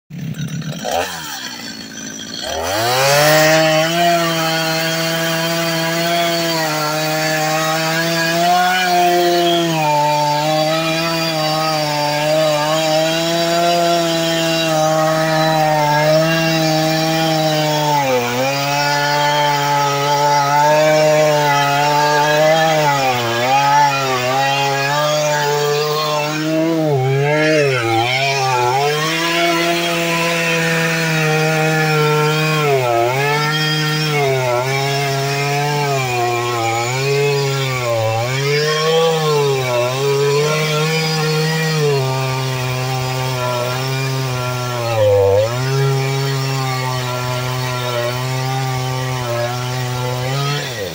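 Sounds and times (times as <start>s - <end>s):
chainsaw cutting wood: 0.1s - 50.9s.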